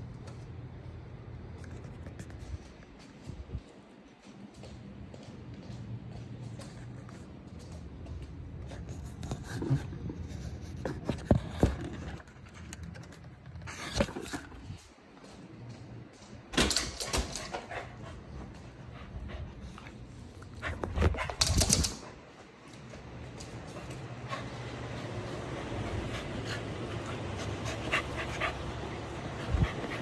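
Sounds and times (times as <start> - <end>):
puppy playing and scuffling: 0.1 - 30.0.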